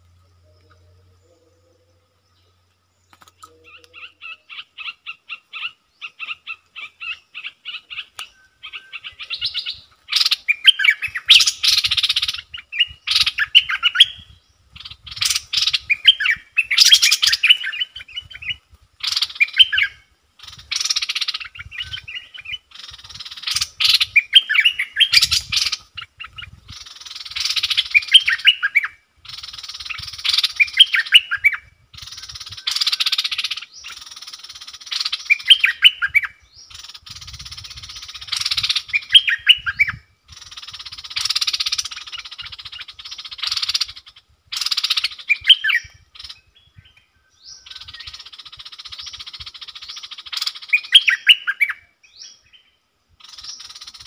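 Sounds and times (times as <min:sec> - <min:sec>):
birds singing clear notes: 0:00.0 - 0:54.0
harsh rasping bird calls: 0:00.0 - 0:54.0.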